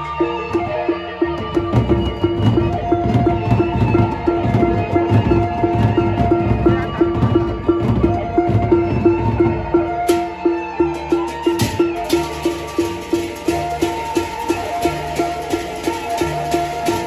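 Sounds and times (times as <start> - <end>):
barrel drums beaten: 1.3 - 17.0.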